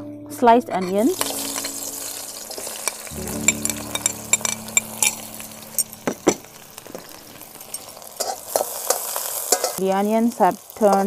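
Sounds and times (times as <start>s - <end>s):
metal spoon scraping and clinking: 0.7s - 9.8s
onions sizzling in hot oil: 0.8s - 11.0s.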